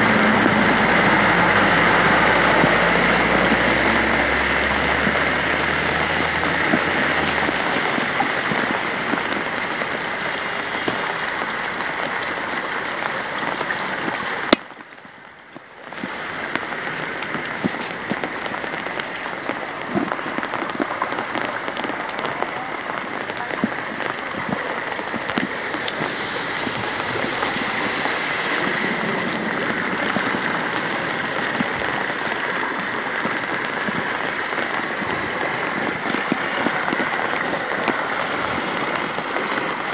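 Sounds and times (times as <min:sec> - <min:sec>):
rain on an umbrella: 0:00.0 - 0:39.9
running floodwater: 0:00.0 - 0:39.9.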